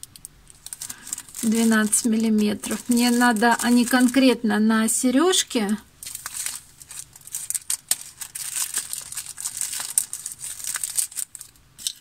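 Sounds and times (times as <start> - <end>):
packet crinkling: 0.0 - 4.4, 5.6 - 12.0.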